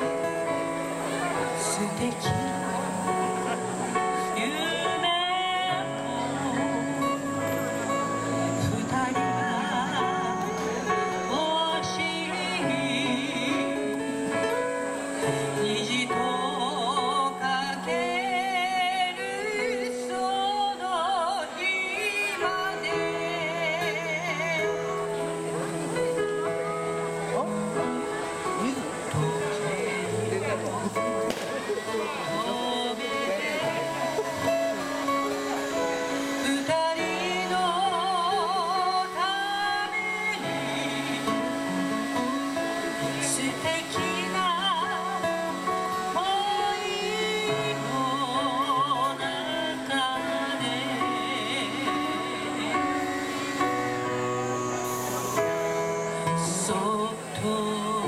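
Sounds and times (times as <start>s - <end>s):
electric stage piano: 0.0s - 58.0s
guitar playing: 0.0s - 58.0s
woman singing: 1.2s - 25.6s, 28.5s - 31.0s, 31.8s - 54.3s, 56.2s - 58.0s.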